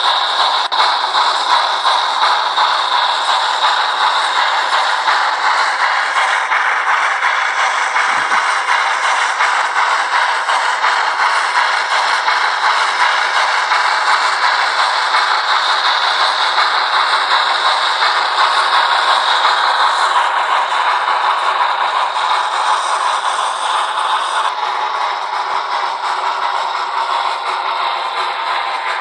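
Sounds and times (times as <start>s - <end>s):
model train rattling on track: 0.0s - 29.0s
steam locomotive sound from small speaker: 0.0s - 29.0s.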